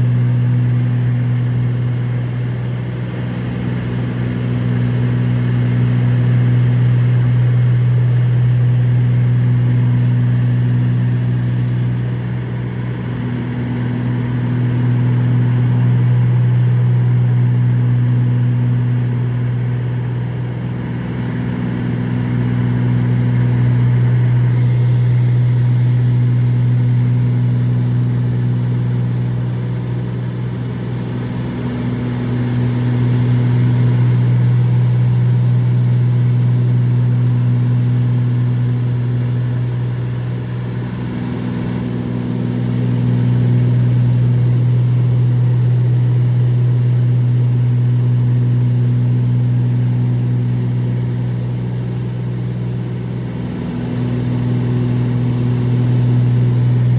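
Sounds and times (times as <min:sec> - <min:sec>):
aircraft engines droning: 0:00.0 - 0:48.6, 0:49.2 - 0:56.9.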